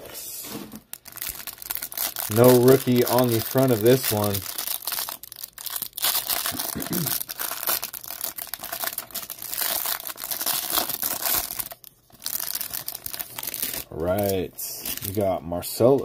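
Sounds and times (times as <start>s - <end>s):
cellophane wrap crinkling: 0.7s - 15.3s.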